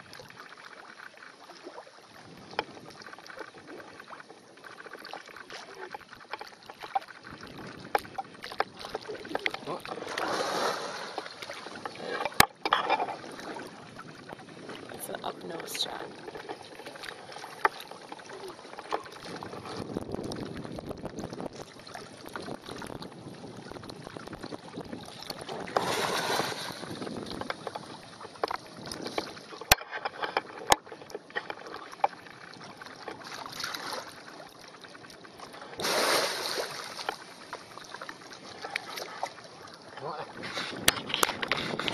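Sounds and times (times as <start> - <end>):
water sloshing and splashing: 0.0 - 41.9.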